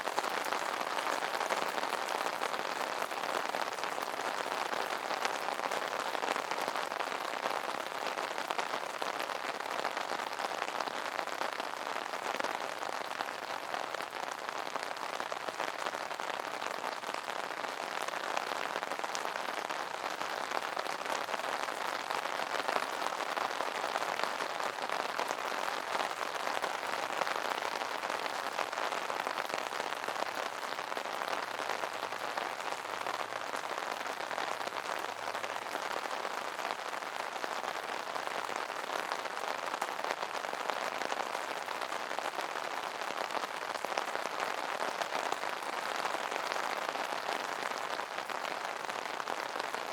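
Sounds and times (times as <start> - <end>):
rain pattering on an umbrella: 0.0 - 49.9.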